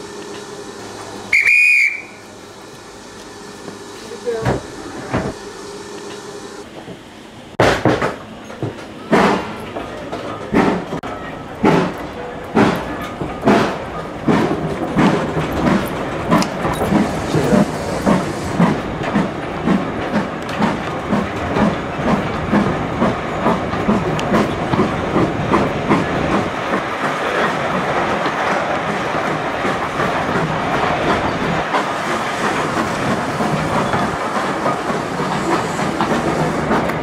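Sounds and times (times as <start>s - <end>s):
steam locomotive chuffing: 0.0s - 7.6s, 8.2s - 37.0s
train rolling rumble: 0.0s - 37.0s.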